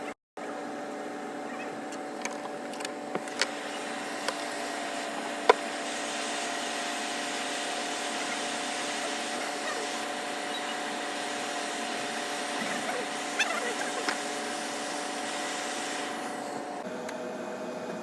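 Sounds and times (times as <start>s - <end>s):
small fan motor whirring: 0.6s - 18.0s.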